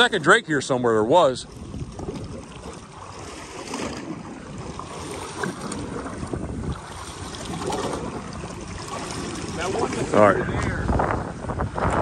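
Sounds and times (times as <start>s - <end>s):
water lapping against boat hull: 0.0s - 12.0s
wind buffeting microphone: 0.0s - 12.0s.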